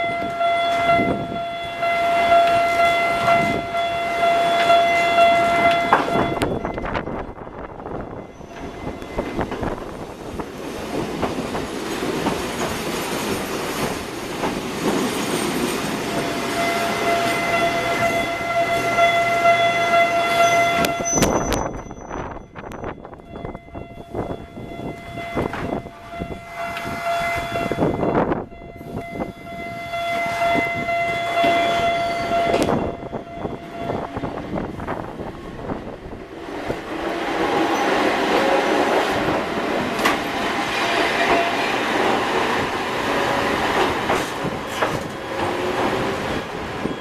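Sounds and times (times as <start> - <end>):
wind buffeting microphone: 0.0 - 1.8, 3.1 - 4.2, 5.4 - 18.5, 20.7 - 47.0
crossing warning bells ringing: 0.0 - 47.0
train wheels rolling on rails: 0.0 - 47.0.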